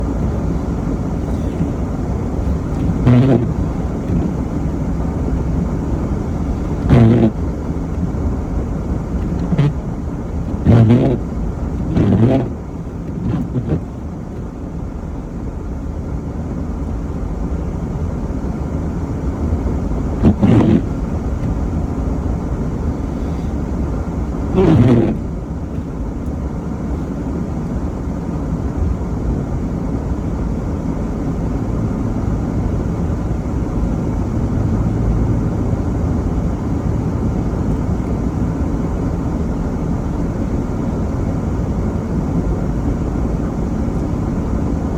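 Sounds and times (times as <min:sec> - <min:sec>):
car engine rumble: 0:00.0 - 0:44.9
road noise: 0:00.0 - 0:44.9.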